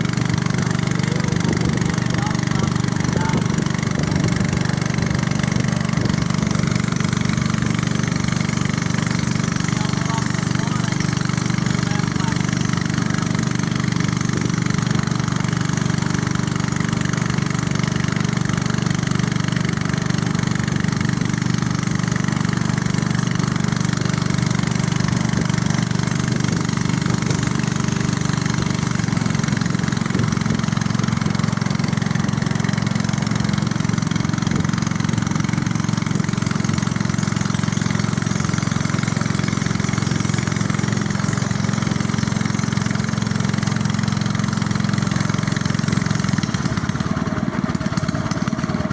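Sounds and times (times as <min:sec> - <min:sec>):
small boat engine running: 0:00.0 - 0:48.9.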